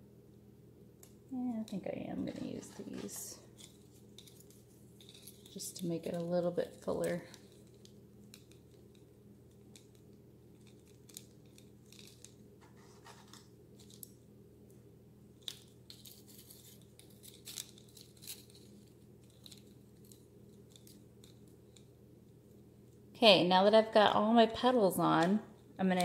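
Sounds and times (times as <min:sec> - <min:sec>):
low room hum: 0:00.0 - 0:26.0
faint clicks and rustles: 0:01.0 - 0:14.2, 0:15.4 - 0:23.0.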